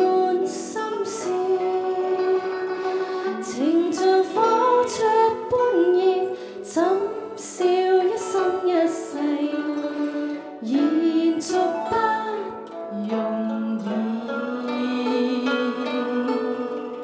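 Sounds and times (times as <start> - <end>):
guzheng ensemble: 0.0 - 17.0.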